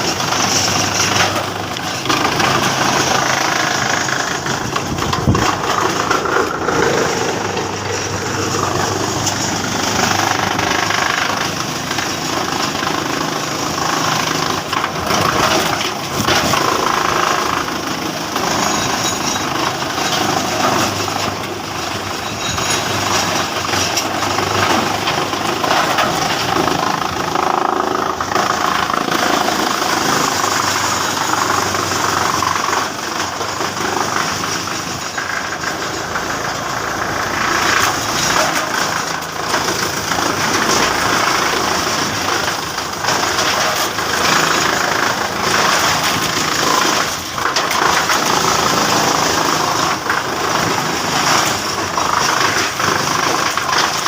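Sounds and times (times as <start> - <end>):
wood chipper running: 0.0 - 54.0.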